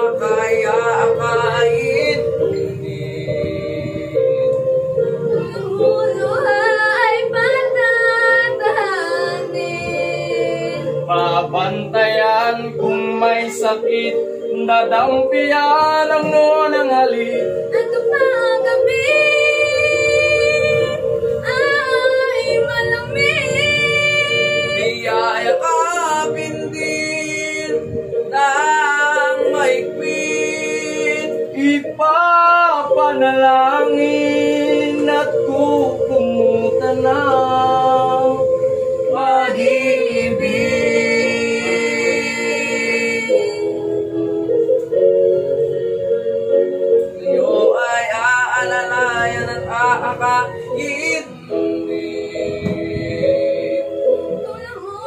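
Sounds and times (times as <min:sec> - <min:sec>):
held accompaniment tones: 0:00.0 - 0:55.0
young voices singing together: 0:00.0 - 0:55.0.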